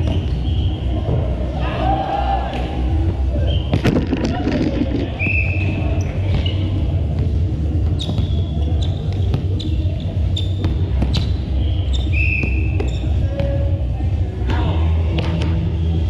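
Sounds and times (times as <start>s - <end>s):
noisy crowd: 0.0s - 16.0s.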